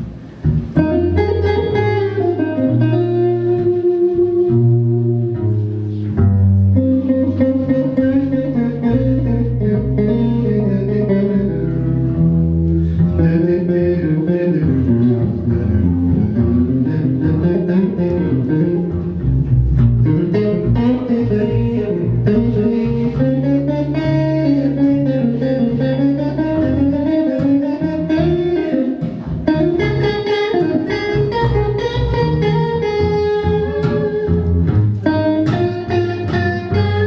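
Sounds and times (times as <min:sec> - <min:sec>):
double bass plucked: 0:00.0 - 0:37.0.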